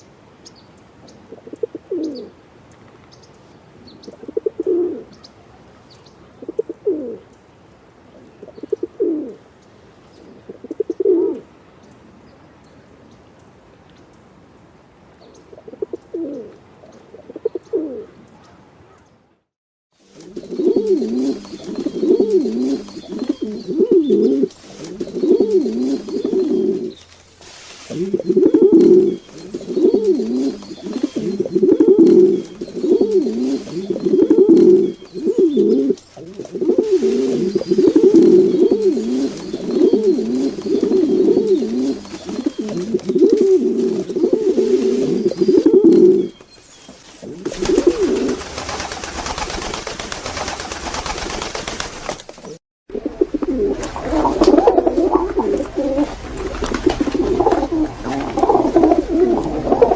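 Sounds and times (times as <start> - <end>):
pigeons cooing: 1.0 - 2.4, 3.8 - 7.3, 8.1 - 9.4, 10.1 - 11.5, 15.5 - 19.0, 20.0 - 51.8, 52.4 - 59.9.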